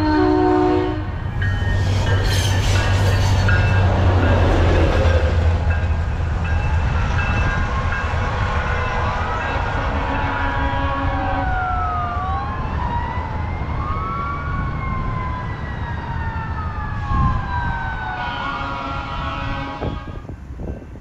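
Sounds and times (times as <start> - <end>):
emergency vehicle siren wailing: 0.0 - 20.2.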